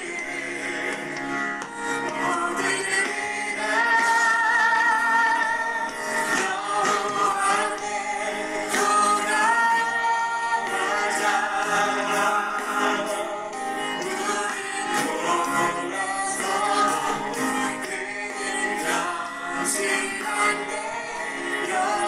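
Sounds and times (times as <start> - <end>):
men singing: 0.0 - 22.0
praise songs from laptop speakers: 0.0 - 22.0.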